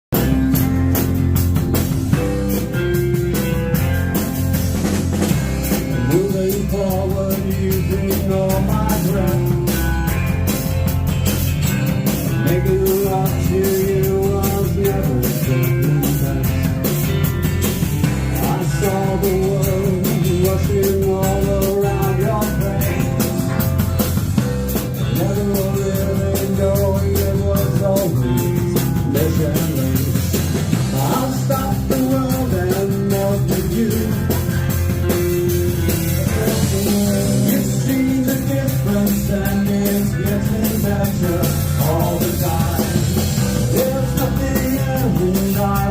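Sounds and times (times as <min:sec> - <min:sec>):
bass guitar: 0:00.0 - 0:45.9
drum kit: 0:00.0 - 0:45.9
electric guitar: 0:00.1 - 0:45.9
person singing lead vocal: 0:05.4 - 0:10.4, 0:12.0 - 0:17.4, 0:18.0 - 0:45.9.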